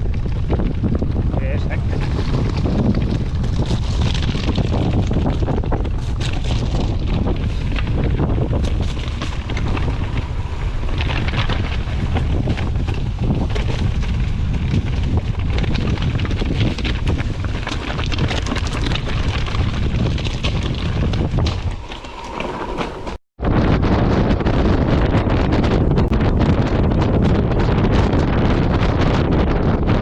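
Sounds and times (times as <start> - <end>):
bike tyres clicking and rattling: 0.0 - 30.0
wind buffeting microphone: 0.0 - 30.0.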